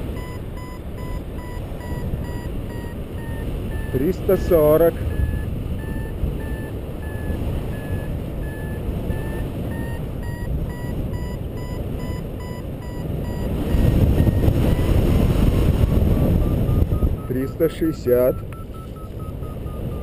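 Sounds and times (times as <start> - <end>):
wind on microphone: 0.0 - 17.5
variometer beeping: 0.0 - 20.0.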